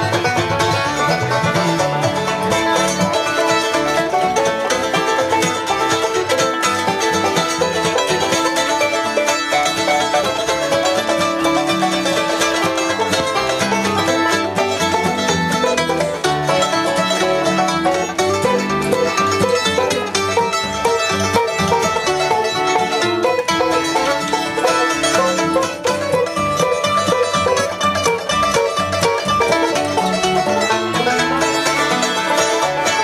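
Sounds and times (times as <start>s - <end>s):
banjo: 0.0s - 33.0s
mandolin: 0.0s - 33.0s
upright bass: 0.0s - 33.0s.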